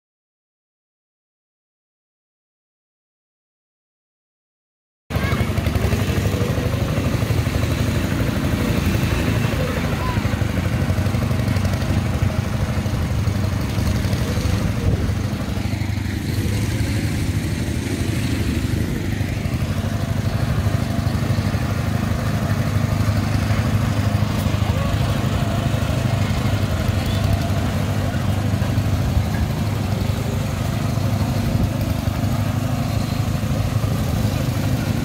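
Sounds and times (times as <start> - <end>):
small tractor engines running: 5.1 - 35.0.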